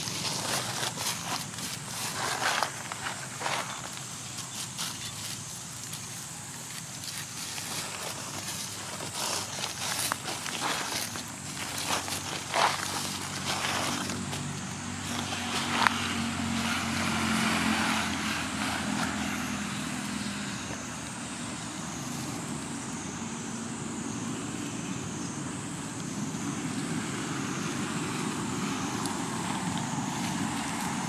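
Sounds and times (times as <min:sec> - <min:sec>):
vehicle engine hum passing: 0:00.0 - 0:31.0.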